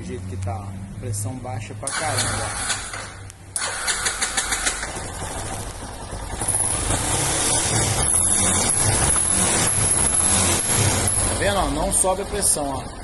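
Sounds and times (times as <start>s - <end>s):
motorcycle engine starting and running: 1.8s - 13.0s.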